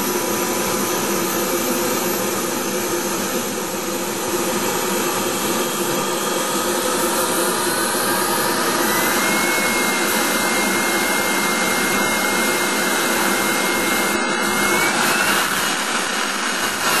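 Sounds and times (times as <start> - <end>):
jet turbine engine running: 0.0 - 17.0.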